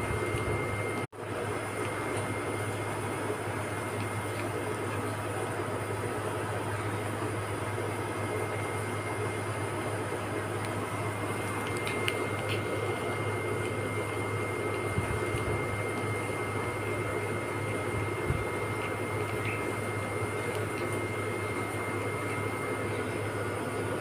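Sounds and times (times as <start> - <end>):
faint high whining tones: 0.0 - 24.0
low machine hum: 0.0 - 24.0.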